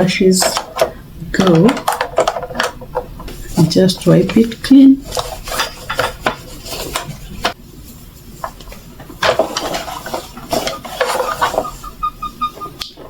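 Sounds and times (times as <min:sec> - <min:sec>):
rubbing inside plastic compartment: 0:01.6 - 0:07.6, 0:08.2 - 0:12.8.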